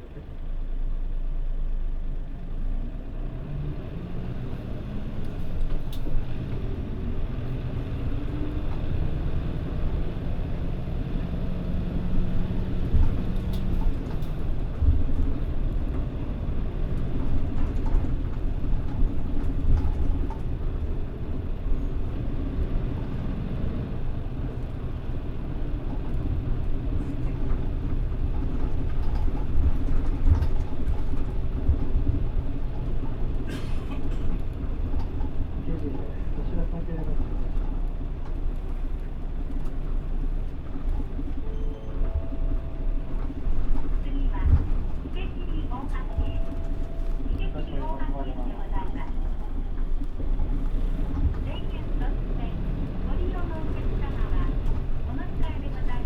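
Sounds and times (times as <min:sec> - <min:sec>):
diesel bus engine: 0:00.0 - 0:56.0
low road rumble: 0:00.0 - 0:56.0.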